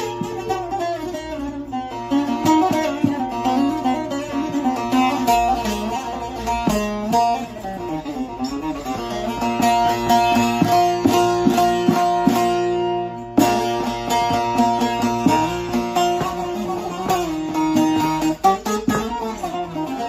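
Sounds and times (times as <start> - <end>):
plucked lute notes over drone: 0.0 - 20.0.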